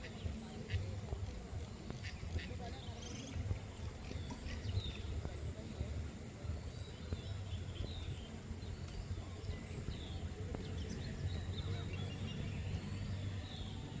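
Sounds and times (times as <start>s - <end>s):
constant high hiss: 0.0s - 14.0s
small birds chirping: 0.0s - 14.0s.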